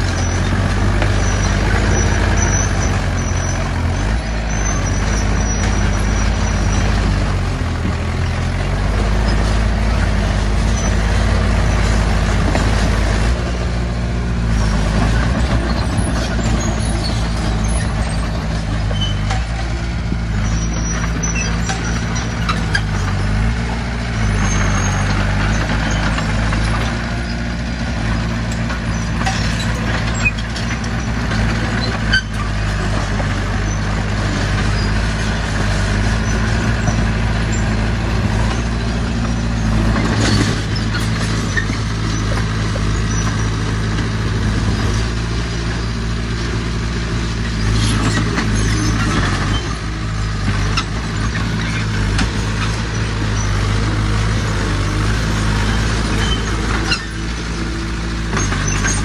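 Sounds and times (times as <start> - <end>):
heavy diesel engines under load: 0.0 - 59.0.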